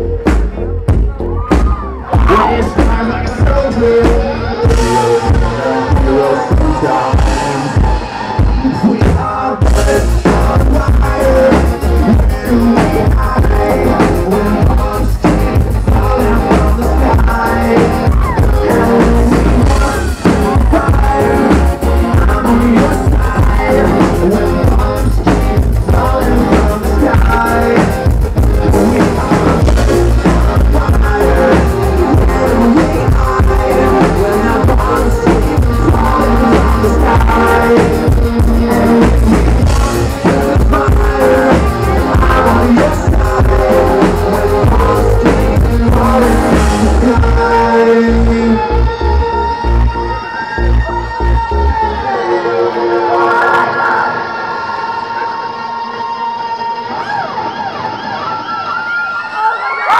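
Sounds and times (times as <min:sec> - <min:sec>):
rock song with drums and guitar: 0:00.0 - 0:52.7.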